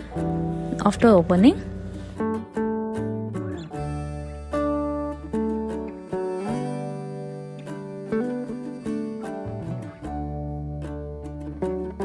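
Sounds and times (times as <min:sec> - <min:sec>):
acoustic guitar plucking notes: 0:00.0 - 0:12.0.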